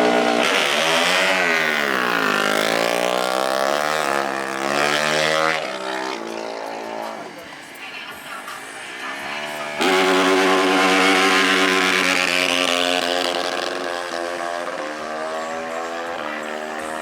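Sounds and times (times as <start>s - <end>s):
racing engine revving: 0.0s - 17.0s.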